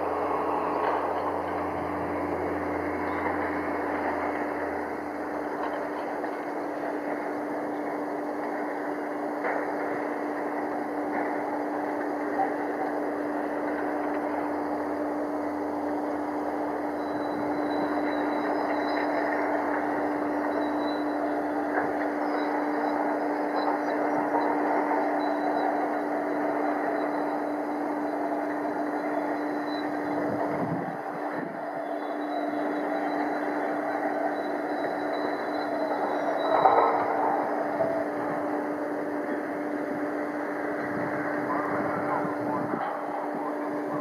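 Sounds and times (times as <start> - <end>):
distant propeller plane engine drone: 0.0 - 44.0.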